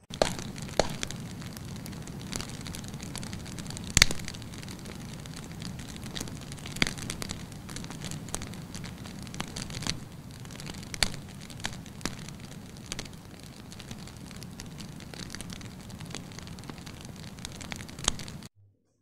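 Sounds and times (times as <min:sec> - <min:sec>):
campfire crackling and popping: 0:00.0 - 0:18.5.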